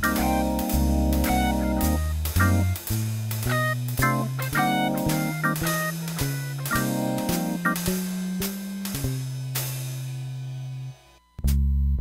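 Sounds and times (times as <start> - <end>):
steady drum beat: 0.0 - 10.4
instrumental music with bass: 0.0 - 12.0.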